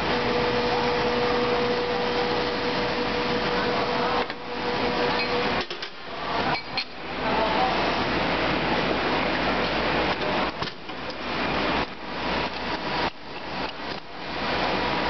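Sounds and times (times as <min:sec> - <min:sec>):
machine humming and hissing: 0:00.0 - 0:15.0.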